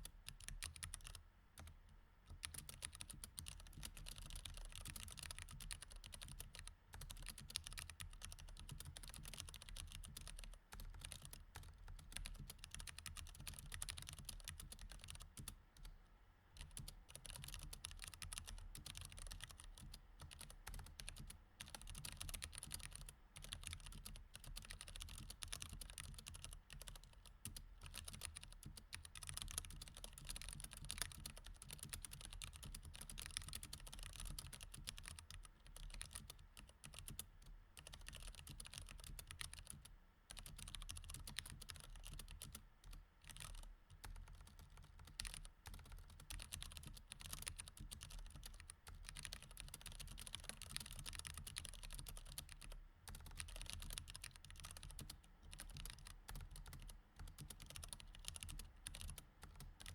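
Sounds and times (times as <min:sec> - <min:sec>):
fast typing on mechanical keyboard: 0:00.3 - 0:15.9, 0:16.6 - 0:59.9.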